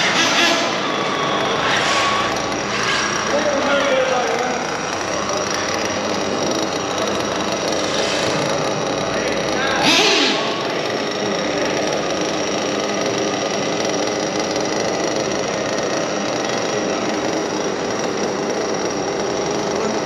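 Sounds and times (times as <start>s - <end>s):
electric toy car motors whining: 0.0s - 20.0s.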